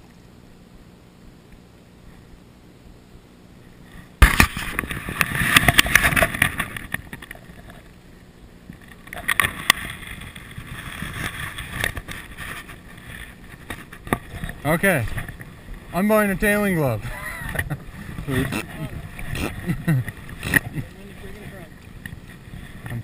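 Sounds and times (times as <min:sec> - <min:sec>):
river water splashing: 0:03.9 - 0:23.0.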